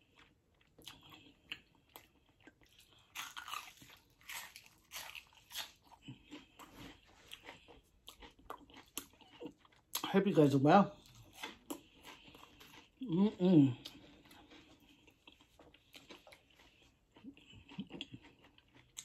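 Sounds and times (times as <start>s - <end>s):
person chewing crunchy food: 0.0s - 19.0s.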